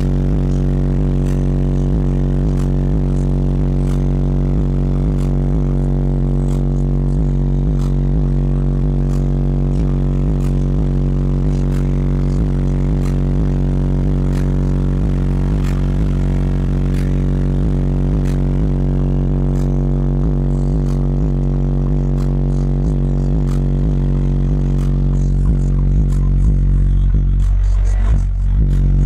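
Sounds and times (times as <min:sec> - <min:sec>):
loud deep bass from subwoofers: 0:00.0 - 0:29.0.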